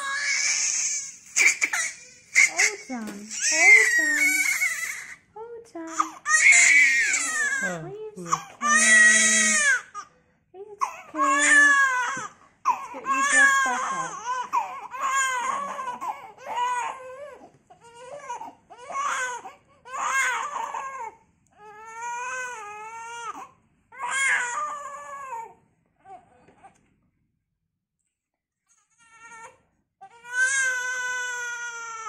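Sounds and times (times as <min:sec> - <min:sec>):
baby crying: 0:00.0 - 0:05.2, 0:05.9 - 0:10.1, 0:10.8 - 0:26.3, 0:28.7 - 0:32.0.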